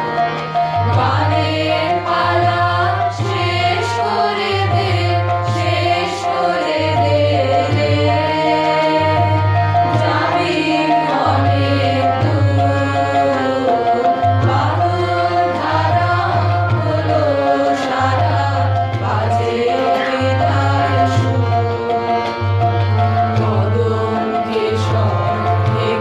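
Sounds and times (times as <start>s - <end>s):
chorus singing: 0.0s - 26.0s
sustained instrument drone: 0.0s - 26.0s
tabla: 0.0s - 26.0s.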